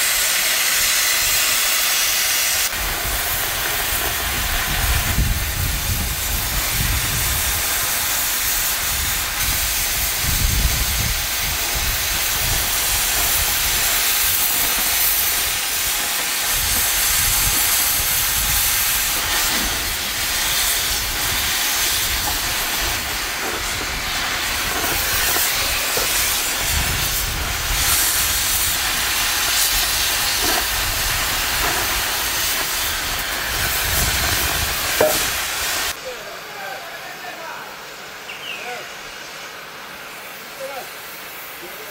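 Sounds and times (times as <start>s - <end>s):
cutting torch hissing: 0.0s - 41.9s.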